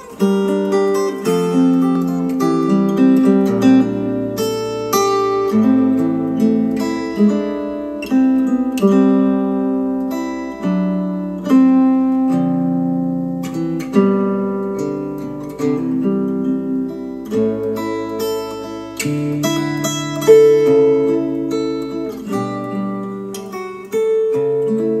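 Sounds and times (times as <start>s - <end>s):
acoustic guitar plucking: 0.0s - 25.0s.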